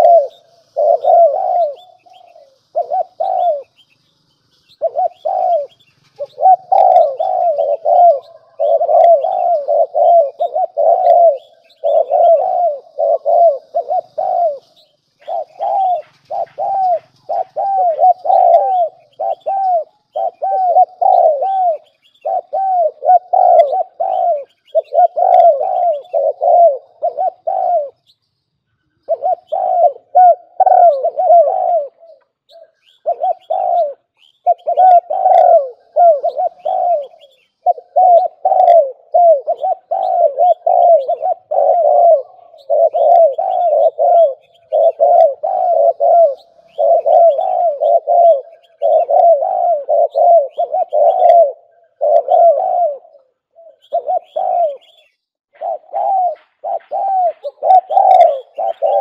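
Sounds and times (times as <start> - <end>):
doves cooing: 0.0 - 28.2, 28.8 - 59.0.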